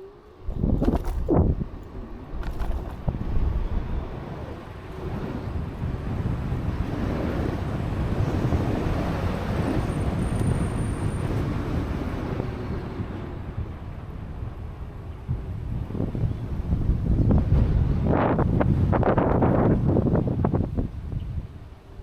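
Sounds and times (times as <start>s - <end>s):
wind buffeting microphone: 0.4s - 22.0s.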